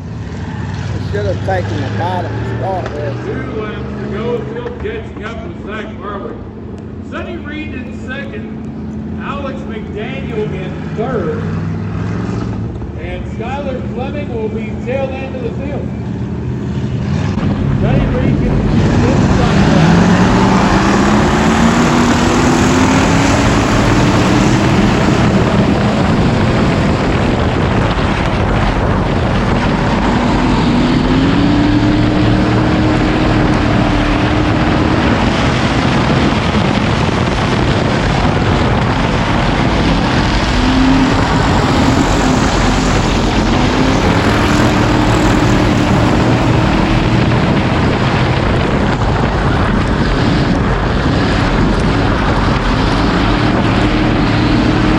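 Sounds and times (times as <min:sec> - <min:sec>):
race car engines: 0:00.0 - 0:54.9.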